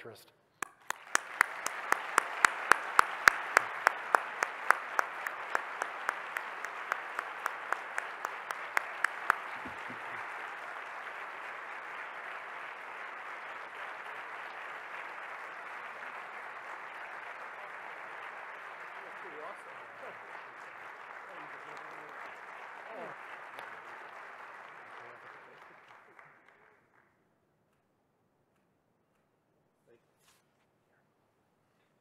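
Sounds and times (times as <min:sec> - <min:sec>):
audience applauding: 0:00.6 - 0:27.1
sharp claps close to microphone: 0:00.6 - 0:27.9.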